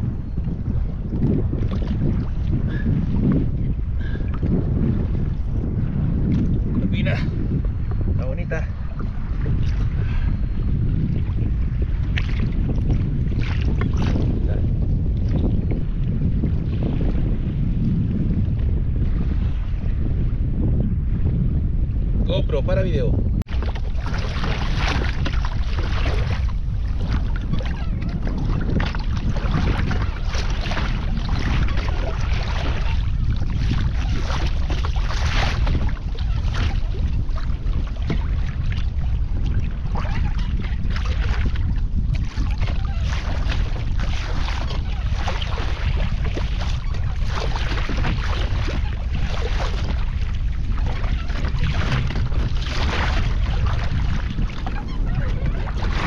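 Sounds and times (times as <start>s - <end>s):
water splashing and sloshing: 0.0s - 20.3s, 23.3s - 56.0s
wind buffeting microphone: 0.0s - 56.0s.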